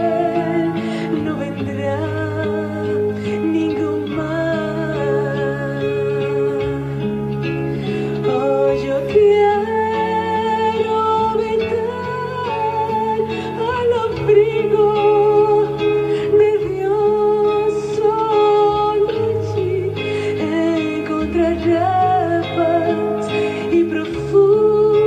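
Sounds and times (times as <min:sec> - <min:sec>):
live band playing slow worship song: 0:00.0 - 0:25.0.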